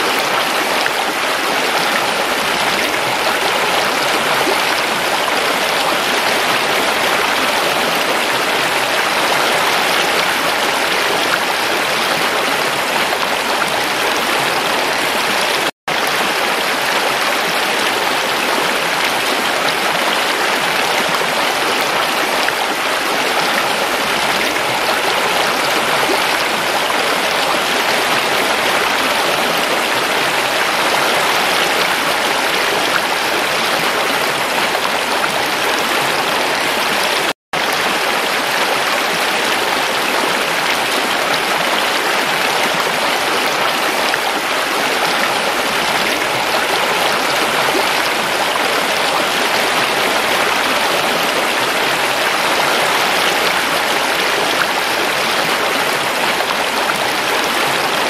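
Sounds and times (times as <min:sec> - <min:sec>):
mountain stream rushing over stones: 0:00.0 - 0:58.0.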